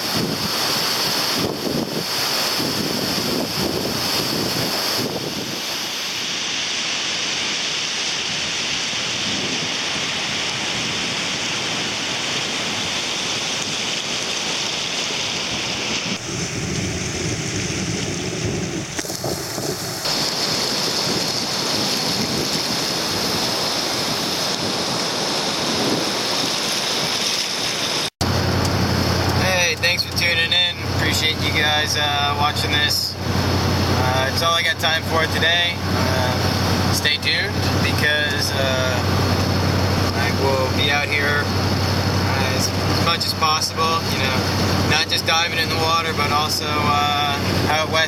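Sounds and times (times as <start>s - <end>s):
water rushing through gates: 0.0s - 48.0s.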